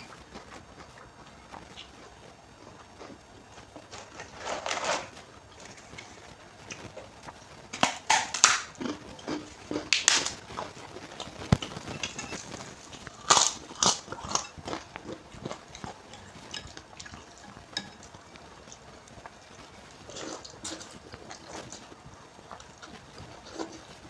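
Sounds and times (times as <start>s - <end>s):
crunching and chewing noodles: 0.0s - 24.0s.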